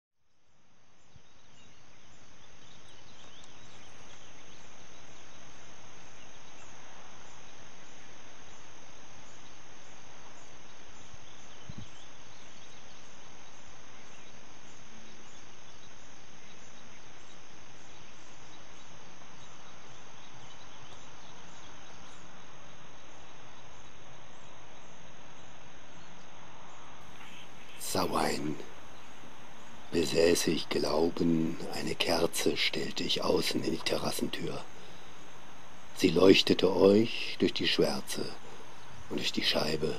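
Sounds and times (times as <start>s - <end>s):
background hiss: 0.2s - 39.9s
crickets chirring: 0.2s - 39.9s.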